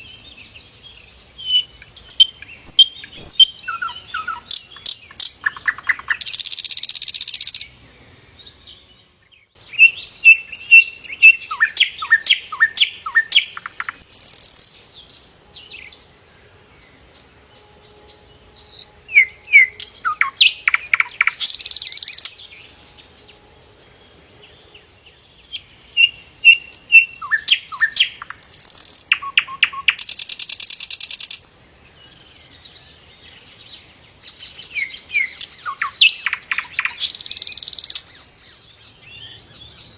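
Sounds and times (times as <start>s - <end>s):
flycatcher singing: 0.0s - 7.8s, 8.4s - 16.1s, 16.8s - 39.9s.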